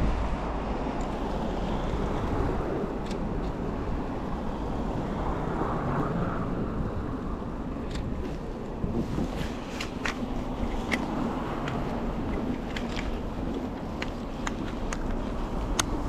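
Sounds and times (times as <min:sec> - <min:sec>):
city street traffic rumble: 0:00.0 - 0:16.0
wind buffeting microphone: 0:00.0 - 0:16.0.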